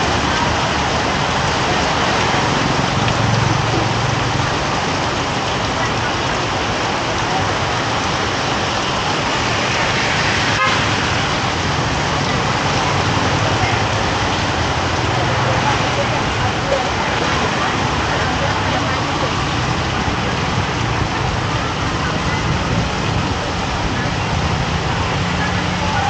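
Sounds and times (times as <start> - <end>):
rain falling on street: 0.0 - 26.0
traffic passing: 0.0 - 26.0.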